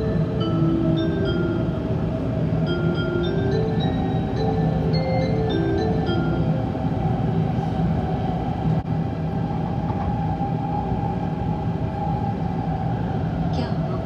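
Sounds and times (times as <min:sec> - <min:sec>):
train running inside passenger car: 0:00.0 - 0:14.0.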